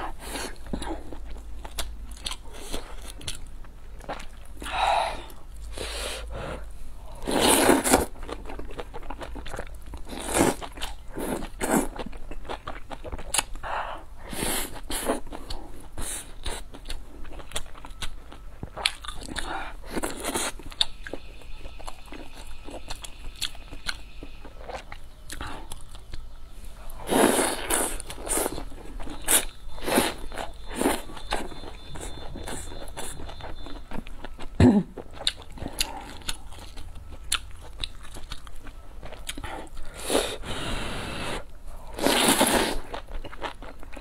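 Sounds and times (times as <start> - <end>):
person chewing food: 0.0 - 44.0.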